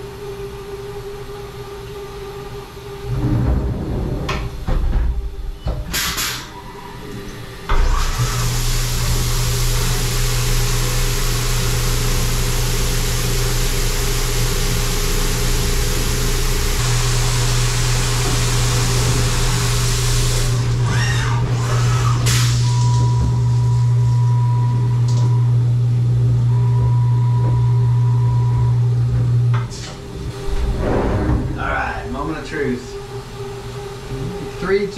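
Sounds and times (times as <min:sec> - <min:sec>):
low machine hum: 0:00.0 - 0:34.9.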